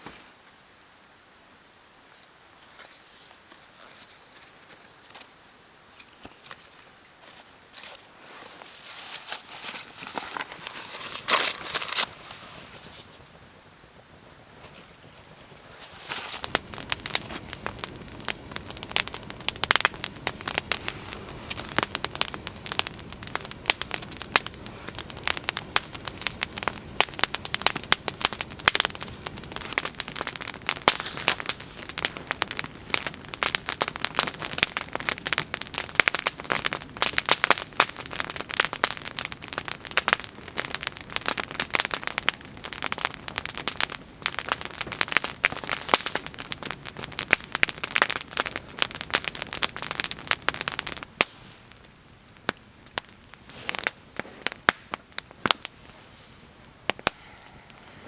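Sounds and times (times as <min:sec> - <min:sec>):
wood fire crackling: 0:02.3 - 0:58.0.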